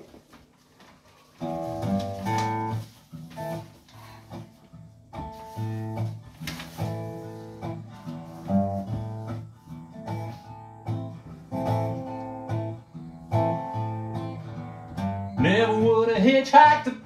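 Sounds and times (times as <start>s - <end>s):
strummed and picked guitar: 1.4s - 17.0s.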